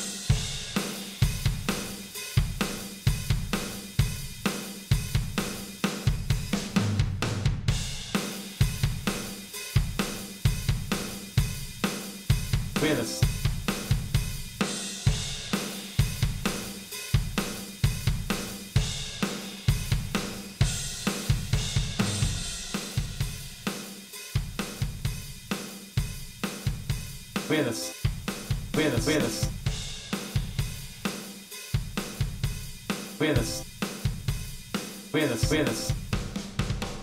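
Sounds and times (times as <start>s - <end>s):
drum kit beat: 0.0s - 37.0s.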